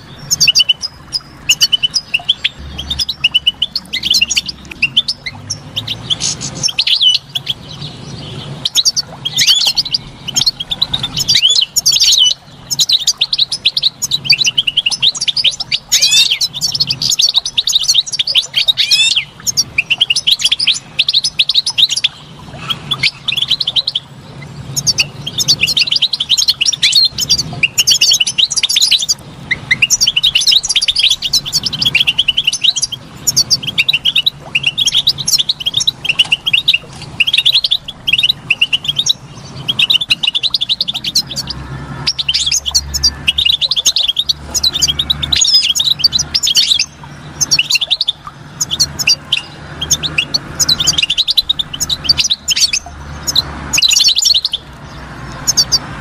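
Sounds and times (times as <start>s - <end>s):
goldfinch twittering song: 0.0s - 56.0s.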